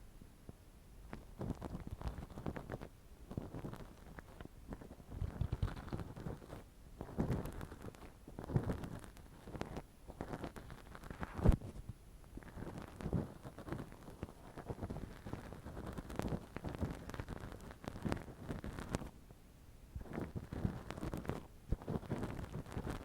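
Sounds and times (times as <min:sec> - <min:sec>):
crackly rubbing on microphone: 0:01.0 - 0:19.2, 0:20.0 - 0:23.0.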